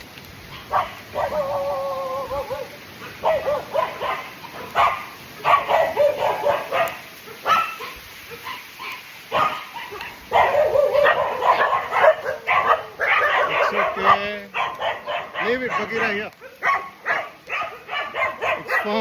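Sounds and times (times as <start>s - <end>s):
dog whining and yipping: 0.5s - 6.9s, 7.5s - 18.9s.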